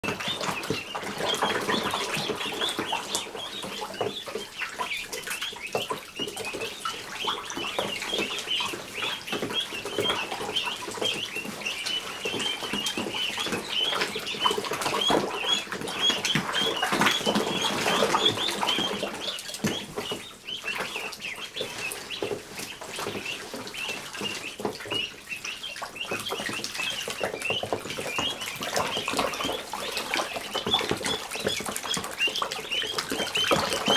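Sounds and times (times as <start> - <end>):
ducklings peeping: 0.0 - 33.9
ducklings splashing in water: 0.0 - 33.9.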